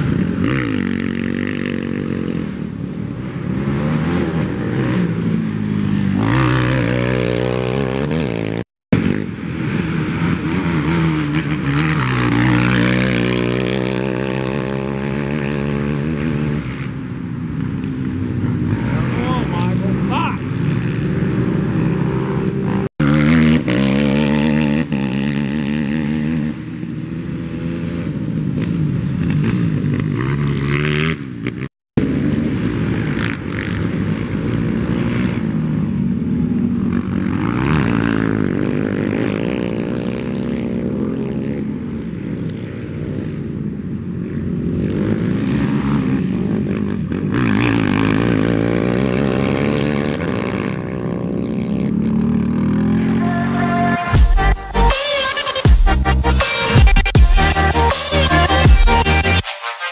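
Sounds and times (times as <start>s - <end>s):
atv engines revving: 0.0s - 59.4s.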